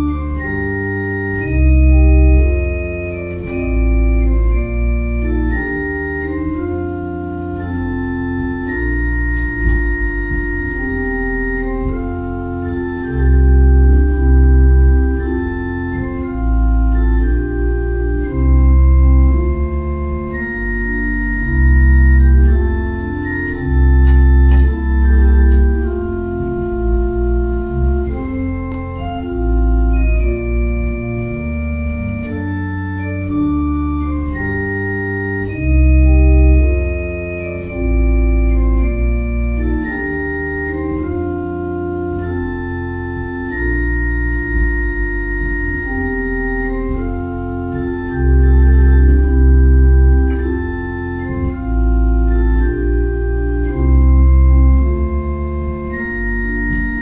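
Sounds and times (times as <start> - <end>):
organ playing sustained chords: 0.0 - 57.0.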